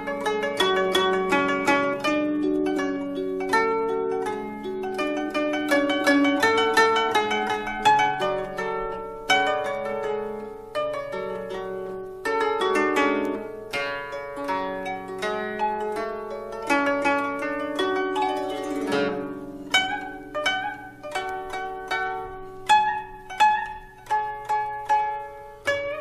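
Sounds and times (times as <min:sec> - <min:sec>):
plucked string instrument music: 0:00.0 - 0:26.0.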